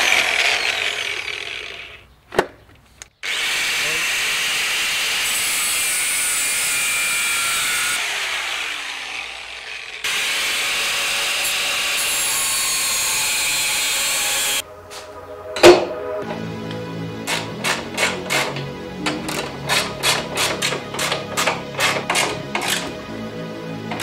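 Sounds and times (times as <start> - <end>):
angle grinder cutting metal: 0.0 - 2.1, 3.2 - 14.6, 15.6 - 23.1, 23.8 - 24.0.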